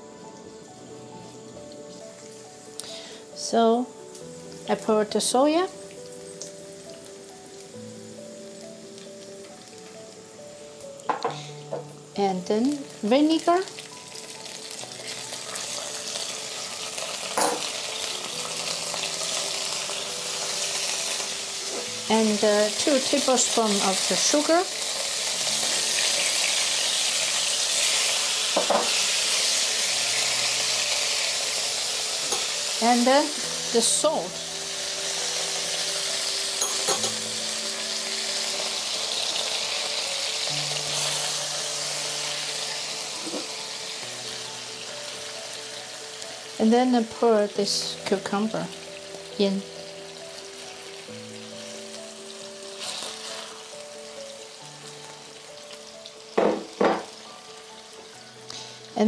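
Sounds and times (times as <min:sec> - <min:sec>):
hot oil sizzling in a wok: 0:00.0 - 0:59.0
soft background music: 0:00.0 - 0:59.0.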